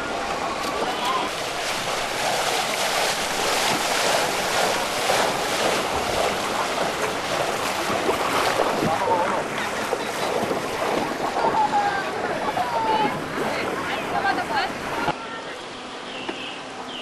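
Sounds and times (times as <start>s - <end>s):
wind buffeting microphone: 0.0s - 15.2s
water rushing: 0.0s - 16.9s.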